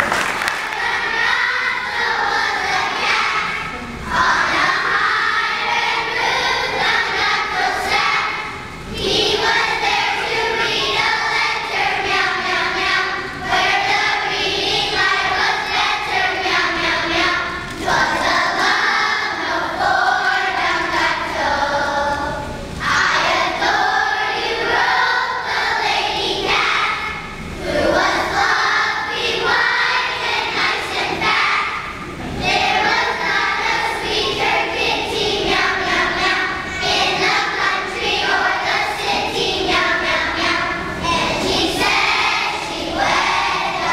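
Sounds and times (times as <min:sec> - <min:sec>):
children's choir singing: 0:00.0 - 0:43.9.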